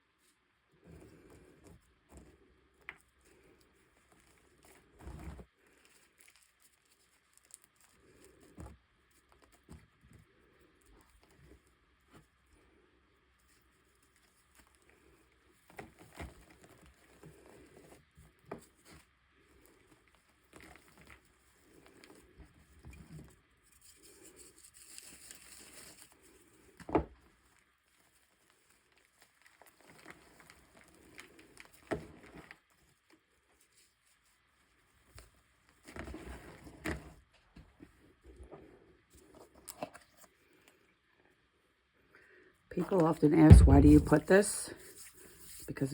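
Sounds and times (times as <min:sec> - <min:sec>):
rustling and crinkling: 0:00.1 - 0:40.8.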